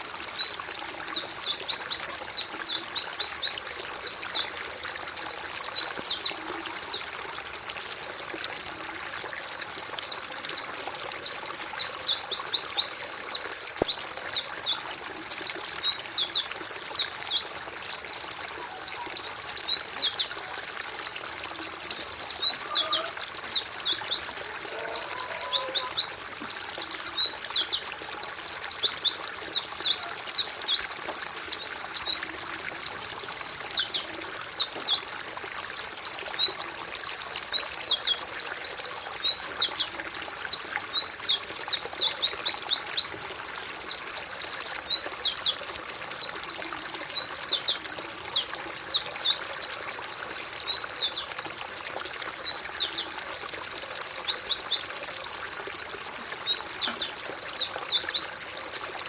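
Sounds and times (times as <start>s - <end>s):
birds chirping in dense chatter: 0.0s - 59.0s.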